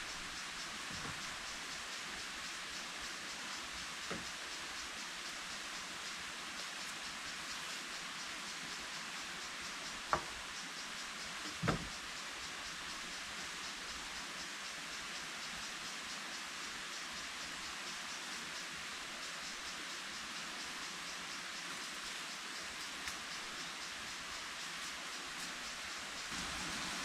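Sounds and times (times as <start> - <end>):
continuous hiss: 0.0 - 27.0
fast insect chirping: 0.0 - 27.0.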